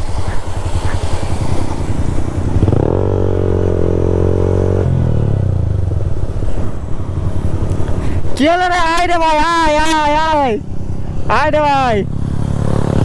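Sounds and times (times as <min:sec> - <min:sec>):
motorcycle engine revving: 0:00.0 - 0:08.0, 0:10.6 - 0:13.0.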